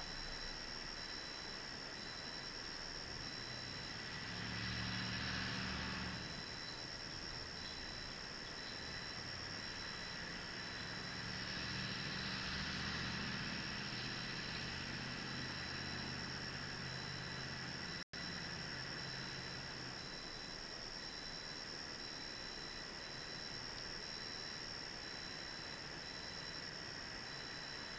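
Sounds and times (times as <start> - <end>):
high-pitched hiss and whine: 0.0 - 27.9.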